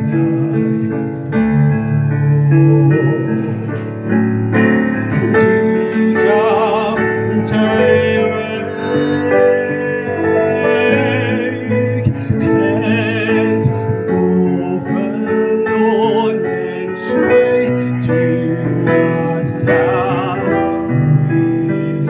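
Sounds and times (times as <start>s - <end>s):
person singing with vibrato: 0.0s - 22.0s
piano accompaniment: 0.0s - 22.0s.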